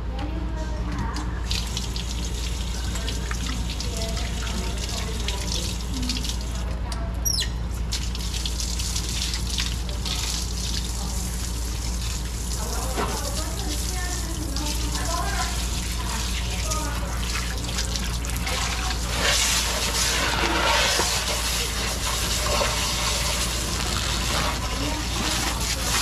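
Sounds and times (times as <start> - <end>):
steady low hum: 0.0 - 26.0
hose water spraying into sink: 1.1 - 26.0.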